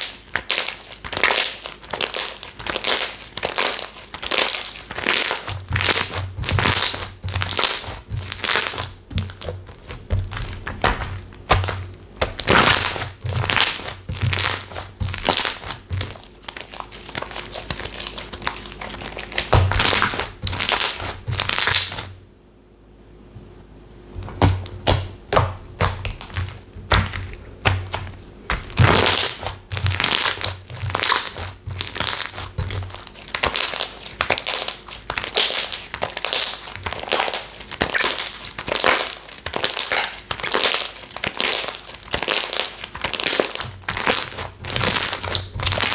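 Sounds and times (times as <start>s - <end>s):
slime squishing by hand: 0.0s - 22.2s, 24.1s - 45.9s.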